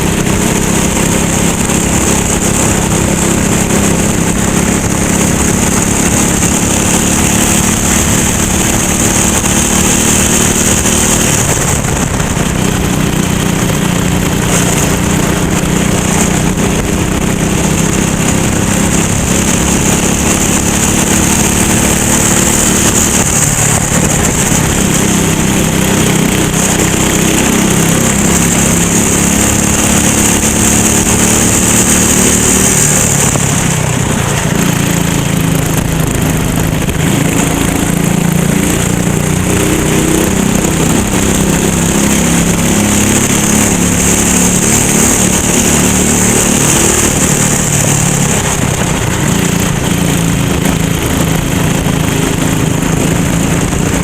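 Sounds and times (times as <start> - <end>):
racing kart engine: 0.0 - 54.0.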